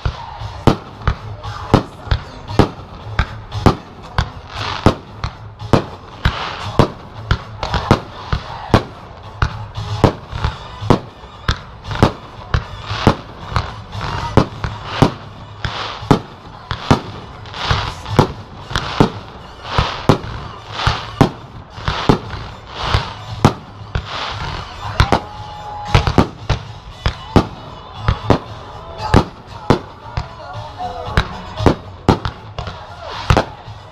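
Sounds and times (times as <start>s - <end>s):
fireworks bursting: 0.0s - 33.9s
music playing: 0.0s - 33.9s.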